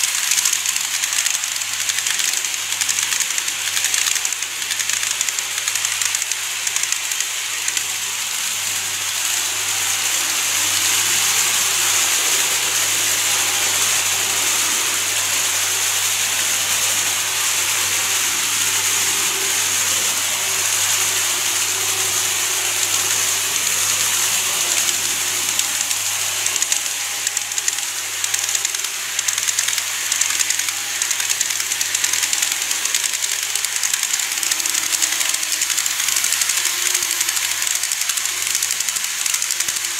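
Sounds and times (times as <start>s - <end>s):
model train wheels on rails: 0.0s - 39.9s.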